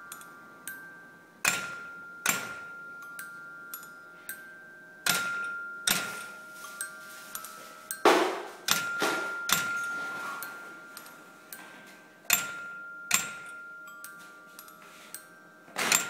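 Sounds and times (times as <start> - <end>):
sharp strikes on ringing metal: 0.0 - 4.4, 5.0 - 11.7, 12.3 - 15.2.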